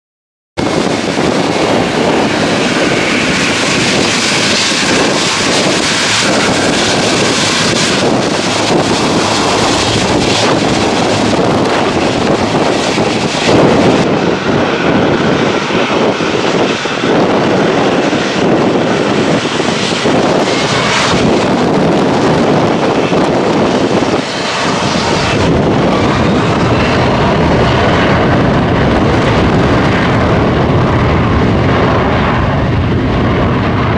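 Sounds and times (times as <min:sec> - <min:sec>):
jet airliner engines at takeoff: 0:00.6 - 0:33.9.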